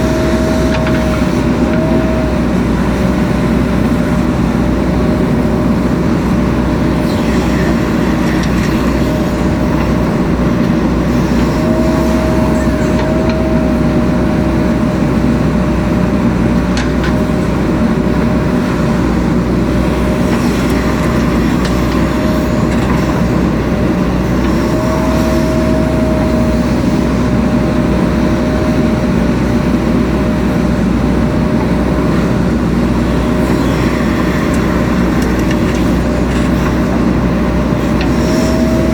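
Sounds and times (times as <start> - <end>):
diesel engine running: 0.0 - 38.9
hydraulic whine: 0.0 - 38.9.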